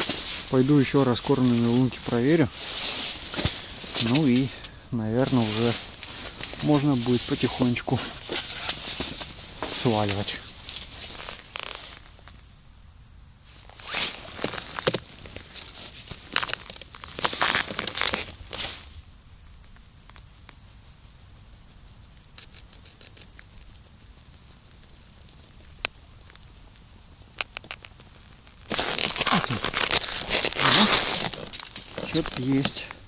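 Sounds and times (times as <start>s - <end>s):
dense rustling noise: 0.0s - 12.6s, 13.3s - 33.0s.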